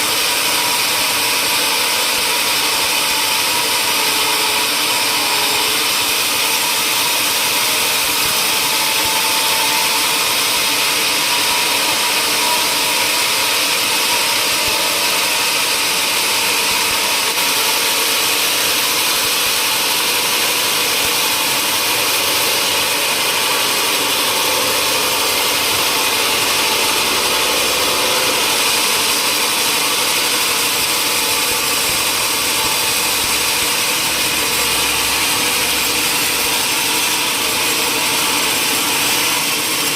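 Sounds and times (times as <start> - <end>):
woodworking machine hissing: 0.0 - 39.9.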